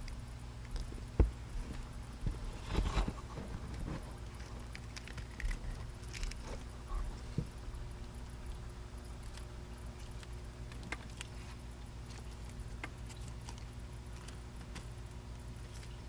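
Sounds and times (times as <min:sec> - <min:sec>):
tortoise crunching lettuce: 0:01.6 - 0:07.3, 0:07.9 - 0:16.0.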